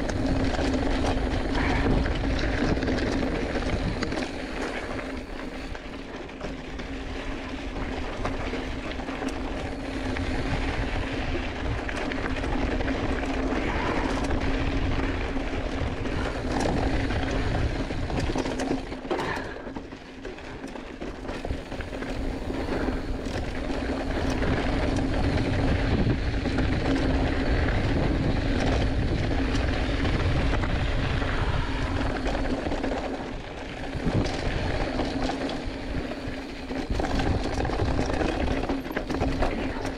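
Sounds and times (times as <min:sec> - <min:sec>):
bike rattling over stones: 0:00.0 - 0:39.9
tyres rumbling on dirt trail: 0:00.0 - 0:39.9
wind buffeting camera: 0:00.0 - 0:39.9.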